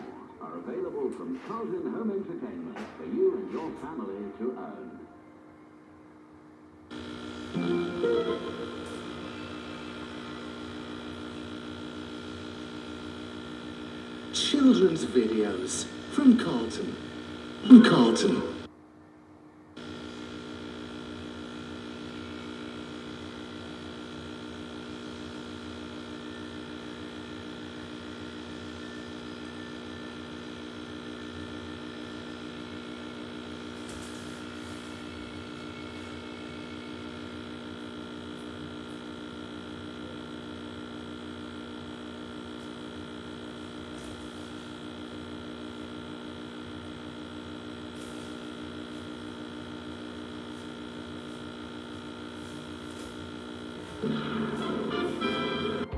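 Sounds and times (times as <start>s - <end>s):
television mains hum: 0.0s - 55.9s.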